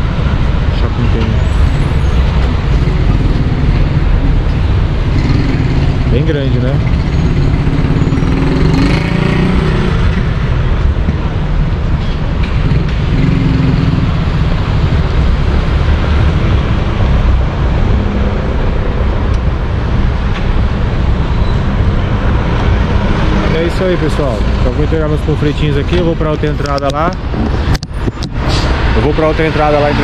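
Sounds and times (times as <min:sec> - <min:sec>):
cars passing on busy road: 0:00.0 - 0:30.0.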